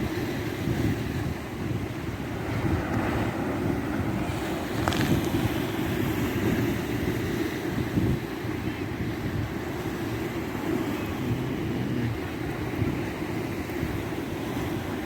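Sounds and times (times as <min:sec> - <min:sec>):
surf washing on rocks: 0:00.0 - 0:15.0
wind buffeting microphone: 0:00.0 - 0:15.0.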